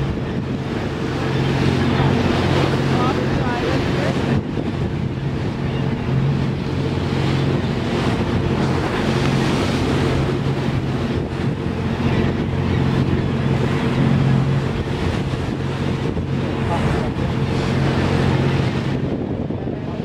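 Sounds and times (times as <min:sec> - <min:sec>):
boat engine droning: 0:00.0 - 0:20.0
water rushing: 0:00.0 - 0:20.0
wind buffeting microphone: 0:00.0 - 0:20.0.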